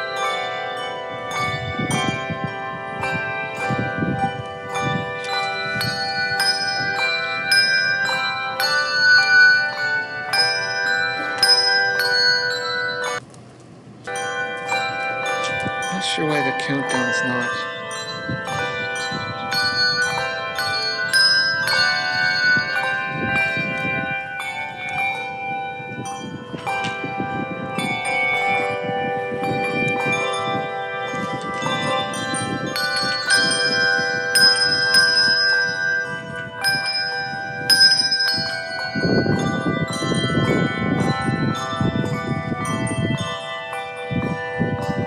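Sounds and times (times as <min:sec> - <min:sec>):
bells ringing in many pitches: 0:00.0 - 0:13.3, 0:13.9 - 0:45.0.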